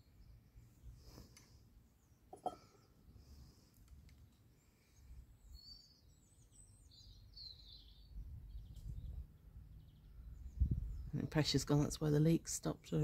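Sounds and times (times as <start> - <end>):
faint birdsong chirps: 0.0 - 11.9.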